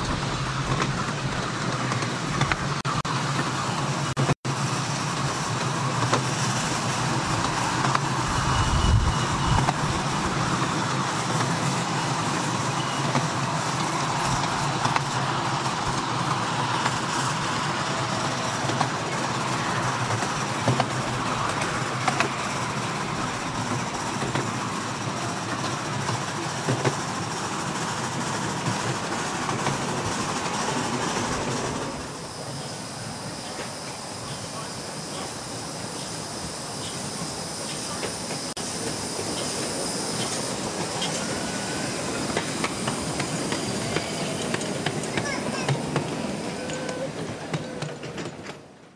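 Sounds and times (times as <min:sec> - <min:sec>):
steam hissing: 0:00.0 - 0:48.7
miniature train running: 0:00.0 - 0:48.9
wheels clicking on rails: 0:00.0 - 0:48.9.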